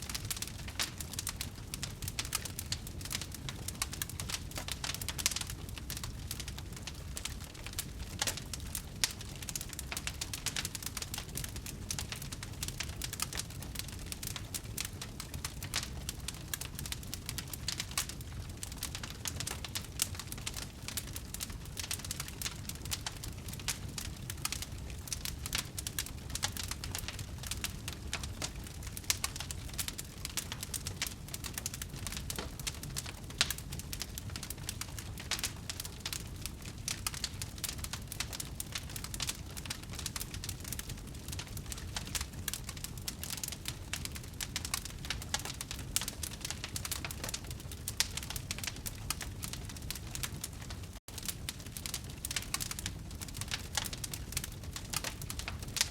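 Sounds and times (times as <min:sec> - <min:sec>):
low rumble of flames: 0:00.0 - 0:55.9
wood fire crackling: 0:00.0 - 0:55.9.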